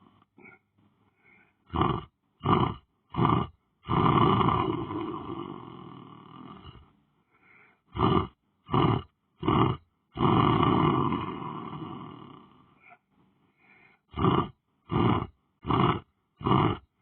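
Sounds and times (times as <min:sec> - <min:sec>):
person snoring: 0:00.0 - 0:13.0, 0:13.6 - 0:17.0
short snorts: 0:00.0 - 0:13.0, 0:13.6 - 0:16.9.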